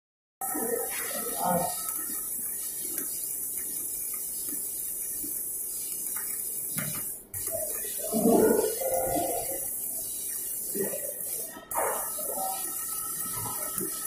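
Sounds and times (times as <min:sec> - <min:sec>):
welding arc hissing: 0:00.4 - 0:14.0.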